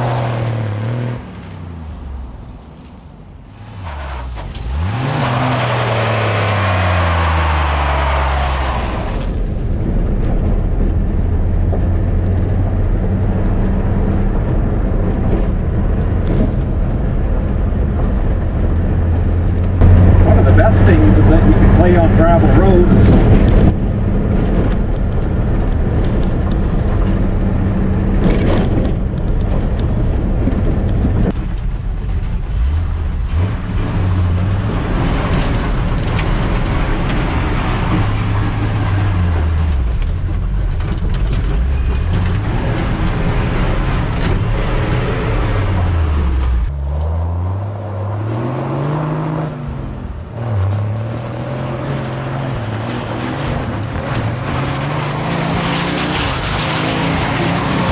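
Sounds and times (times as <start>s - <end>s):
truck engine revving: 0.0s - 2.1s, 3.6s - 15.3s, 18.6s - 31.3s, 32.4s - 57.9s.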